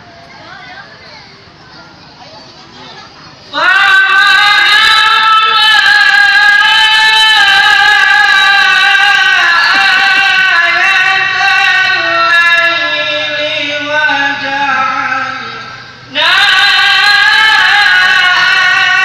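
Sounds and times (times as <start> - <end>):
man chanting into a microphone: 3.6 - 19.0.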